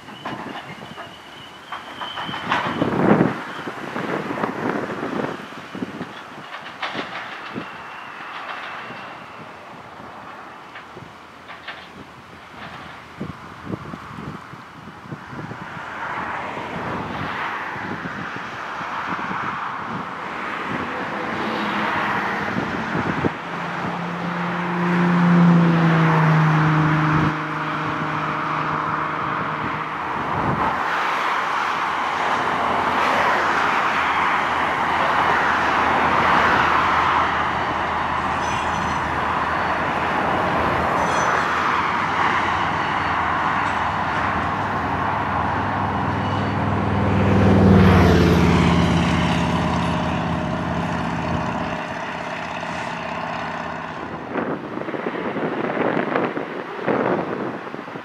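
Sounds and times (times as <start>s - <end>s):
engines passing close by: 0.0s - 58.0s
traffic noise: 0.0s - 58.0s.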